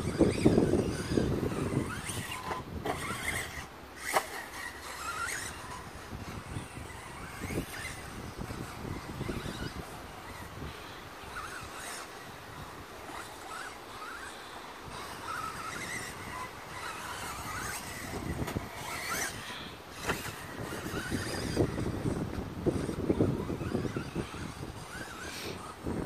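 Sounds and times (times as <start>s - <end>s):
radio-controlled car motor: 0.0s - 26.0s
wind buffeting microphone: 0.0s - 26.0s.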